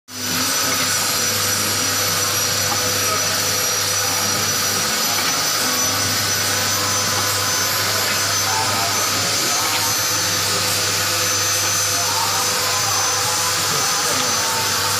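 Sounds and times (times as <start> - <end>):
high-pitched machine whine: 0.1 - 14.9
packing machine humming: 0.1 - 14.9.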